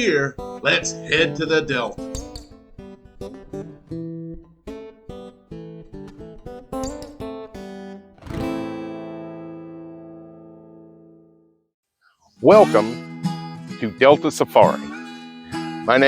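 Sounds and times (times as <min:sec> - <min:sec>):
acoustic guitar playing: 0:00.0 - 0:11.7, 0:12.3 - 0:16.0.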